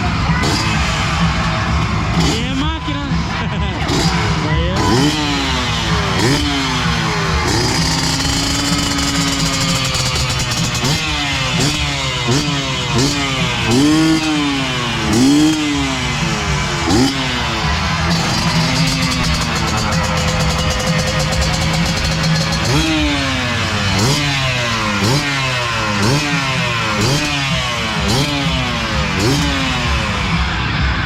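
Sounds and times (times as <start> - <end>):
engine idling: 0.0 - 31.0
motorcycle engines revving: 0.0 - 31.0.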